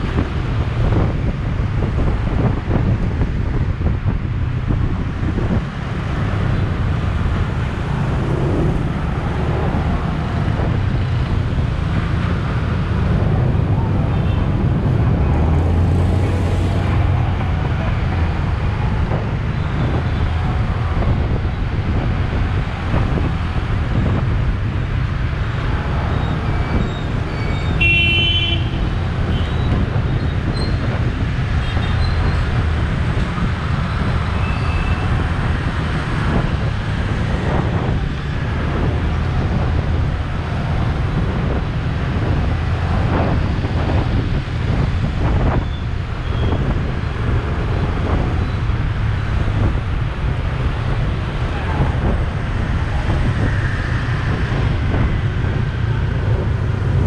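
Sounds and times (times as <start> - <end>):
wind buffeting: 0.0 - 27.8, 28.6 - 57.0
city traffic: 0.0 - 57.0.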